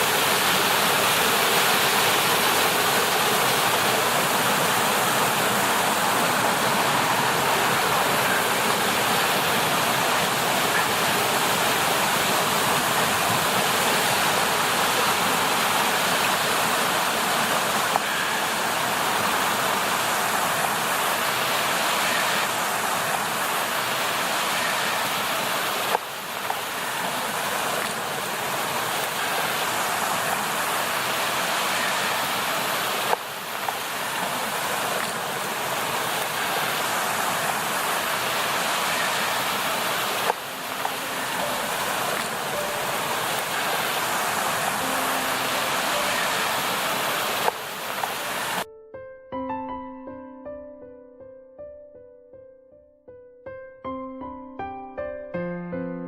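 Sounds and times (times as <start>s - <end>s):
creek water rushing over rocks: 0.0s - 48.7s.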